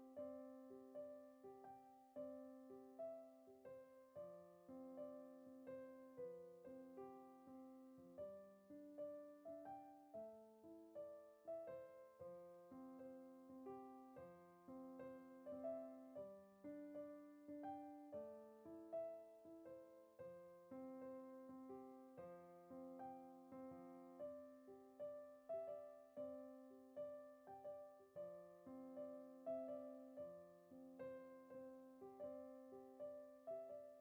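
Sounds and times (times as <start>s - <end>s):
soft piano music: 0.0s - 34.0s.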